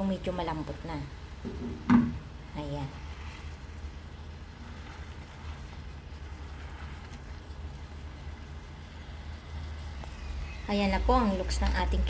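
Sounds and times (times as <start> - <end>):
pan simmering: 0.0 - 12.0.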